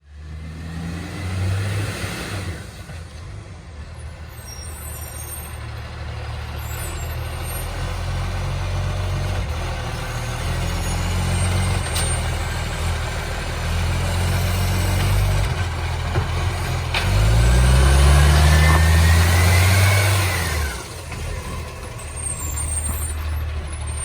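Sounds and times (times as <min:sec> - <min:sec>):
garbage truck diesel engine: 0:00.0 - 0:24.0.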